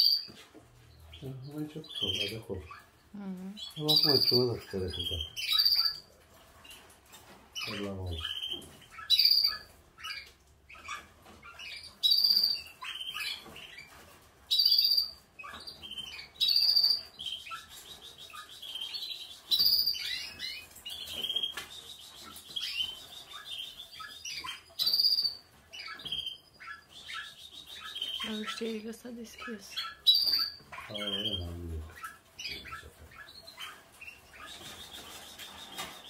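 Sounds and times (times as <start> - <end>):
canaries singing: 0.0 - 36.0.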